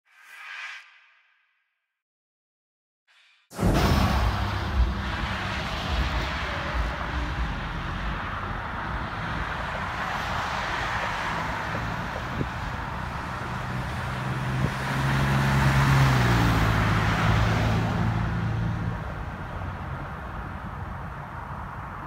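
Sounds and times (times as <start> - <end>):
cars driving past: 3.6 - 22.0.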